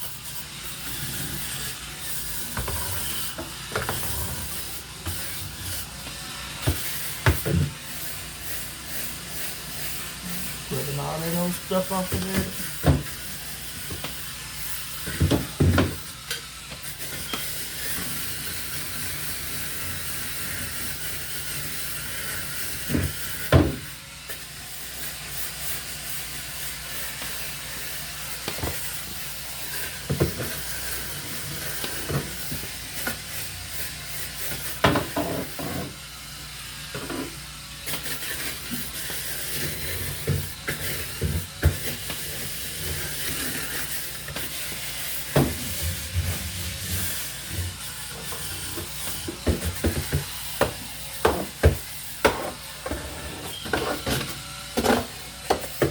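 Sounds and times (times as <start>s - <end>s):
electric scrub brush scrubbing: 0.0s - 55.9s.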